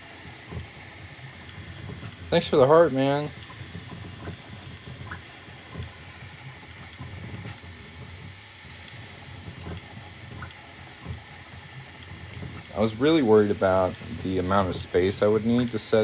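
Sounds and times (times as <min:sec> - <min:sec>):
three d printer motors rumbling: 0:00.0 - 0:16.0.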